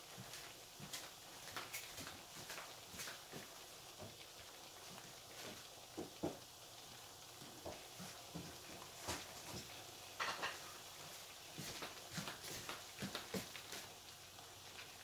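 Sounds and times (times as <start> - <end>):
sauce bubbling in a pan: 0.0 - 15.0.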